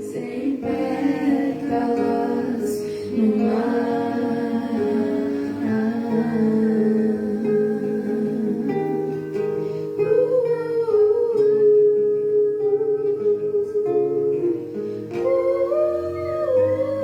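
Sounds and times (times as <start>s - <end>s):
person singing long gliding notes: 0.0s - 17.0s
plucked acoustic guitar: 0.0s - 17.0s.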